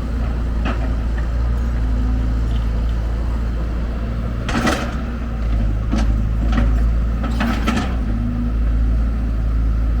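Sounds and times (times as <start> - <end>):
diesel machinery rumbling: 0.0 - 10.0.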